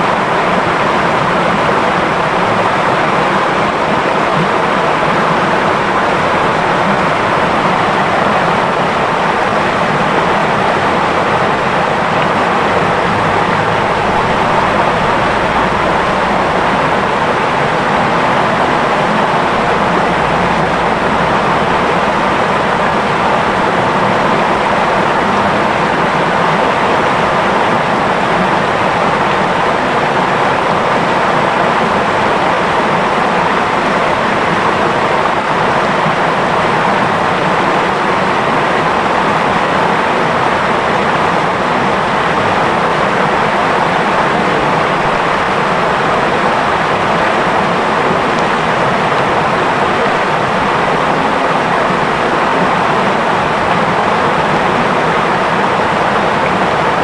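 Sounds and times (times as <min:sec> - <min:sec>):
river babbling: 0:00.0 - 0:57.0.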